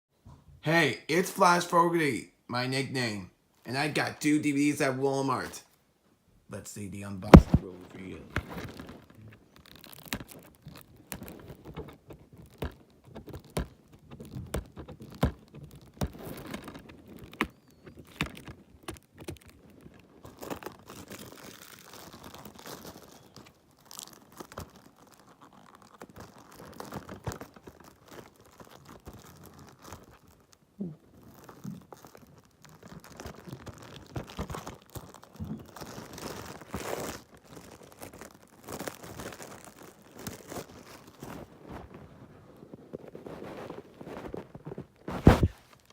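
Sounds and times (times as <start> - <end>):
plastic wrap crinkling and tearing: 7.3 - 45.9.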